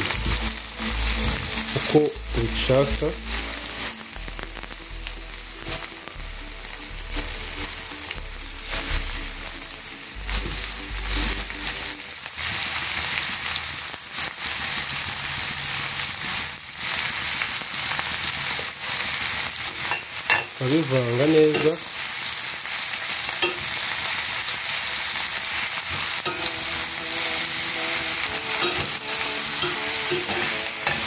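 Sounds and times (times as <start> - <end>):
cabbage sizzling in hot oil: 0.0 - 31.0.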